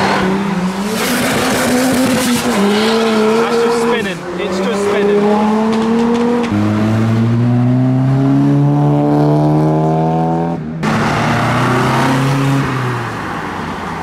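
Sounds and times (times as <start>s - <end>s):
sports car engines accelerating: 0.0s - 13.6s.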